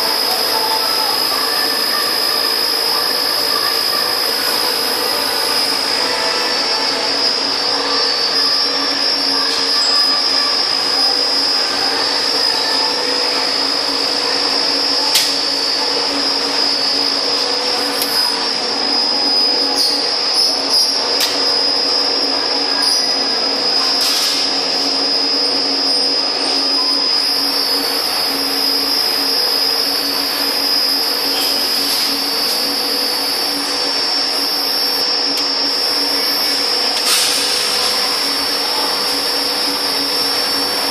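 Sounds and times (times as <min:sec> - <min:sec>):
low machine hum: 0:00.0 - 0:40.9
machine high-pitched whine: 0:00.0 - 0:40.9.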